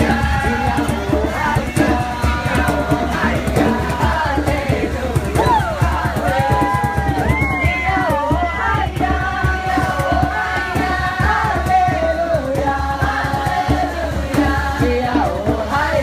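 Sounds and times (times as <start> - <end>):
steady beat: 0.0 - 16.0.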